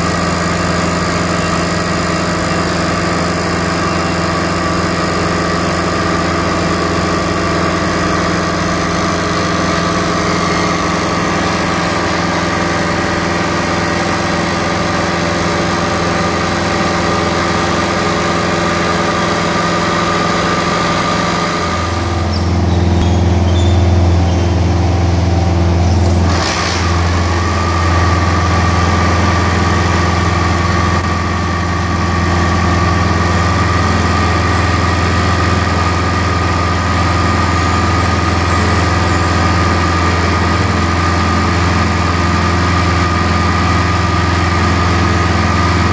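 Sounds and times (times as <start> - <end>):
concrete screed engine droning: 0.0 - 45.9.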